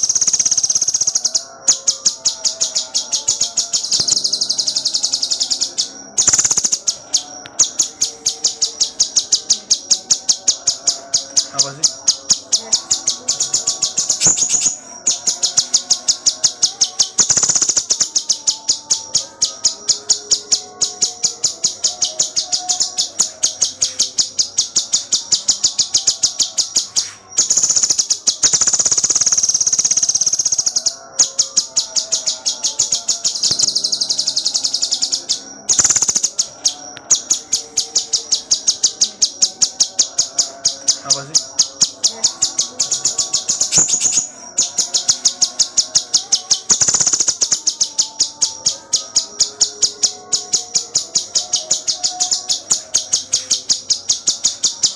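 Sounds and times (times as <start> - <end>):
bird high trill: 0.0 - 54.9
bird sharp high chirps: 0.0 - 54.9.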